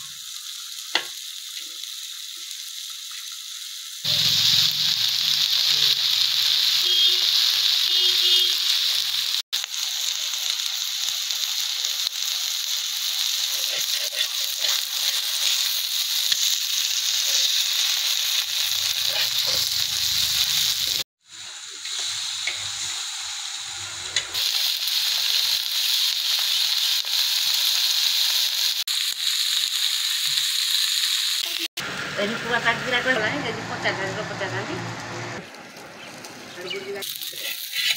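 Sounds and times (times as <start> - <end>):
fish sizzling in hot oil: 0.0 - 32.2, 35.4 - 37.9.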